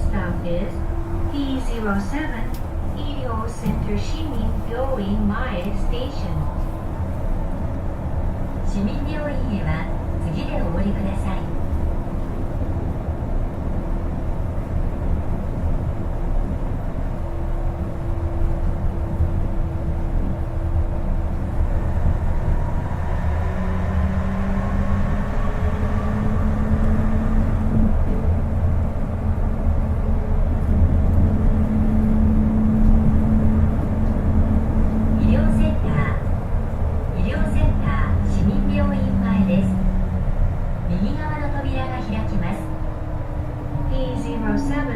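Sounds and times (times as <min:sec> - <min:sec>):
train interior rumble: 0:00.0 - 0:44.9.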